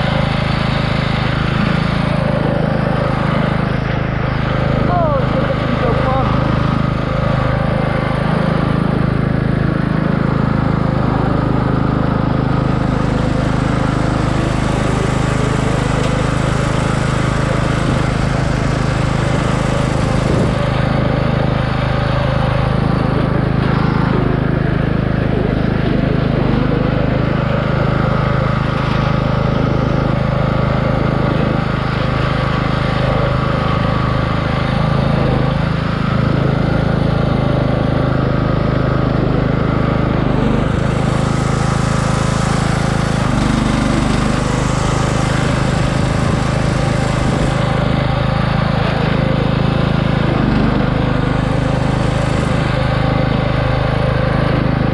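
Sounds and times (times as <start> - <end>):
riding lawn mower engine running: 0.0 - 54.9.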